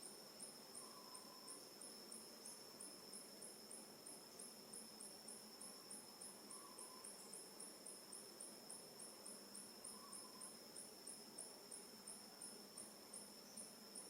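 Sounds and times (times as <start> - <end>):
faint insects chirping: 0.0 - 14.0.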